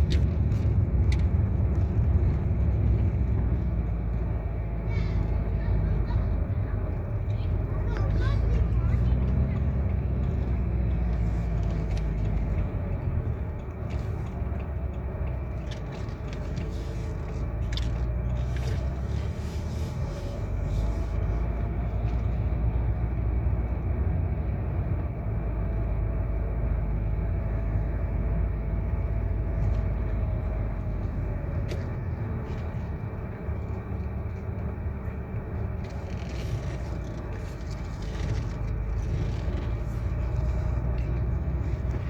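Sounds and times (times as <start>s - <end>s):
vehicle road rumble: 0.0s - 42.0s.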